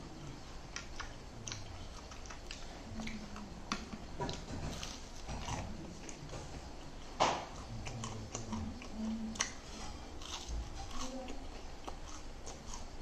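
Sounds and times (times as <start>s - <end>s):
close chewing: 0.0s - 13.0s.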